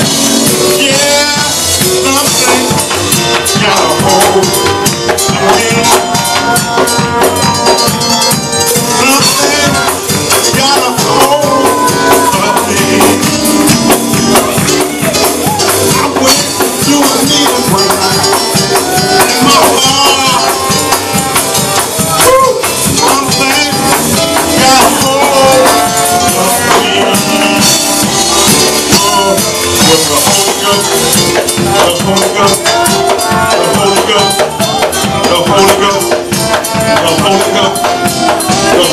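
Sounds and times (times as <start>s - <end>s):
people singing and shouting: 0.0s - 38.9s
rapid drumming: 0.0s - 38.9s.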